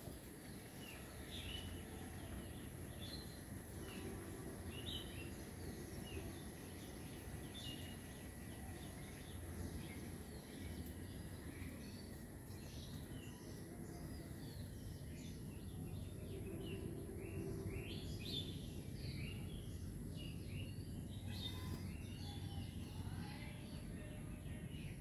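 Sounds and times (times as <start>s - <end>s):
low background hum: 0.0s - 25.0s
birds chirping: 0.1s - 25.0s.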